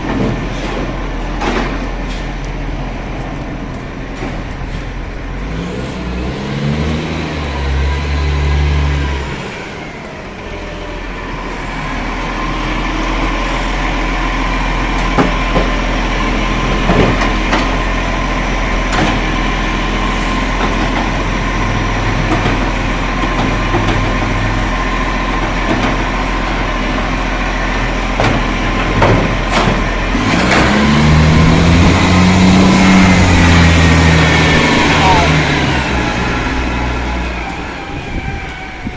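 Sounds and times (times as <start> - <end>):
garbage truck diesel engine: 0.0 - 38.9.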